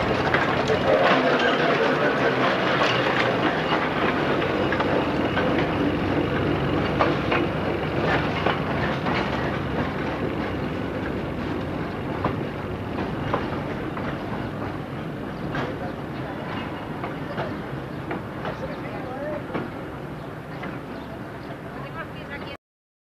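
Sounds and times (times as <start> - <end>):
tram wheels clicking on rails: 0.0 - 22.6.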